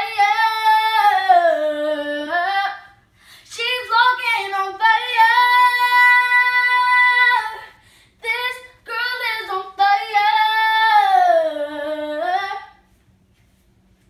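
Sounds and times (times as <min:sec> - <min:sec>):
girl singing unaccompanied: 0:00.0 - 0:12.8.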